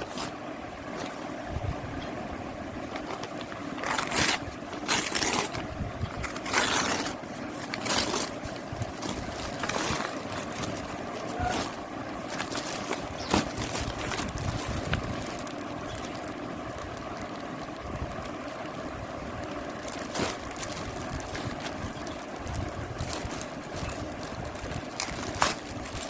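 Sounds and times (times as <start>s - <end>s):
packaging rustling and crinkling: 0.0s - 1.8s, 2.8s - 26.0s
steady background hum: 0.0s - 26.0s.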